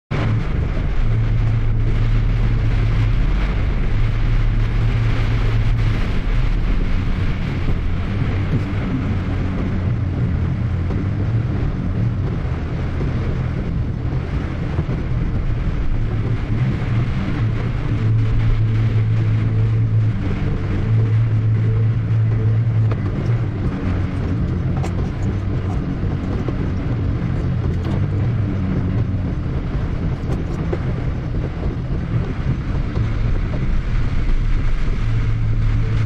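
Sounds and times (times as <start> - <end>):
engine and tyre drone: 0.0 - 36.0
heavy rain on car: 0.1 - 36.0.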